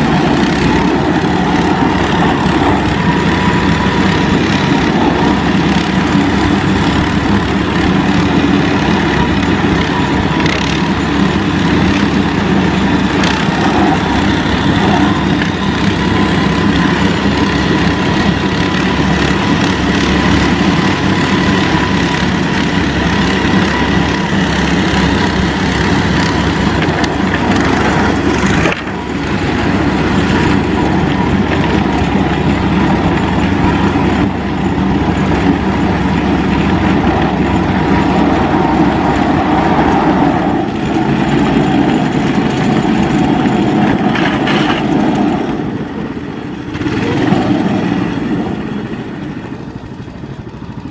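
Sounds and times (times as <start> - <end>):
snowmobile engine running: 0.0 - 50.9.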